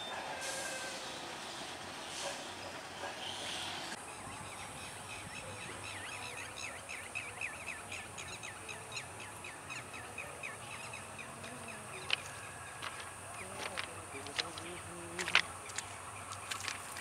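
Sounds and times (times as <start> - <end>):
outdoor ambience hiss: 0.0 - 17.0.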